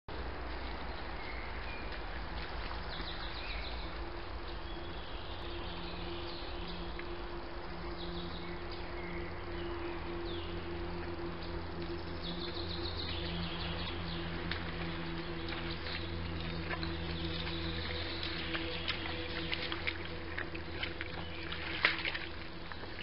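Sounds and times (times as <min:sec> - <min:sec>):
low wavering hum: 0:00.1 - 0:23.0.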